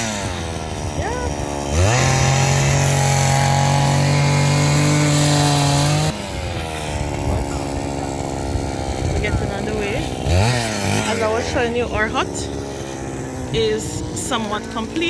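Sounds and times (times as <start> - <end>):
small engine idling and revving: 0.0 - 15.0.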